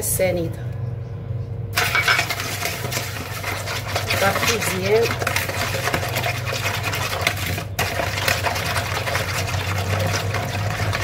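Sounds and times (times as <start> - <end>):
wire whisk beating in plastic bowl: 1.8 - 11.0.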